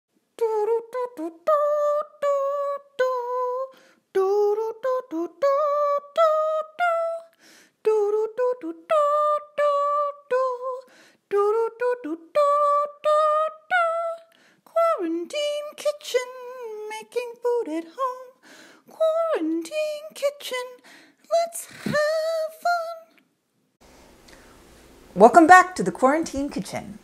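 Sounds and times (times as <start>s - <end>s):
woman singing a cappella: 0.4s - 23.2s.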